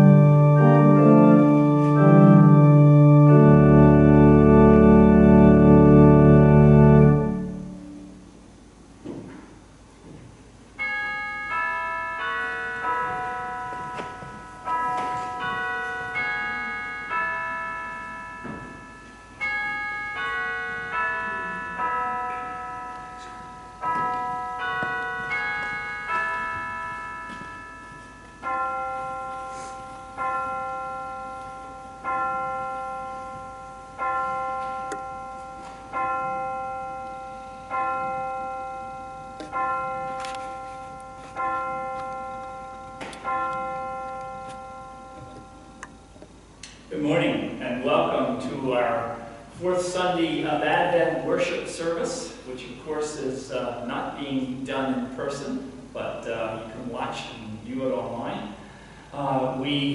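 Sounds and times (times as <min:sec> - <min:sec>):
church bells chiming a tune: 0:00.0 - 0:08.4, 0:10.7 - 0:59.9.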